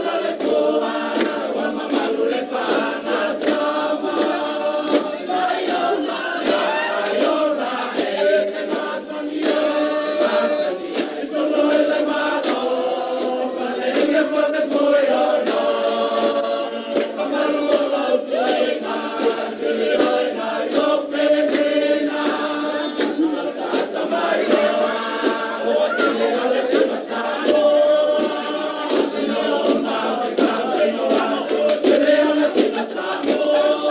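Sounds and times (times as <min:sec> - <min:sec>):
group singing in chorus: 0:00.0 - 0:33.9.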